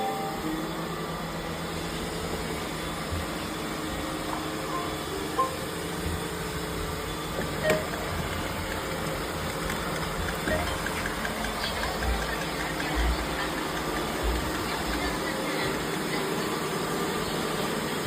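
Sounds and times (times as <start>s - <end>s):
robot vacuum cleaners humming: 0.0s - 18.0s.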